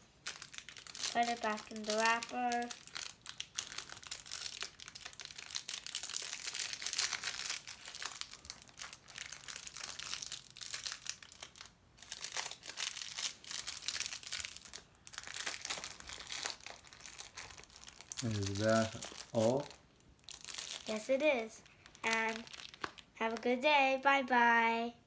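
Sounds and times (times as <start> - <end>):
plastic wrapper crinkling: 0.1 - 23.6.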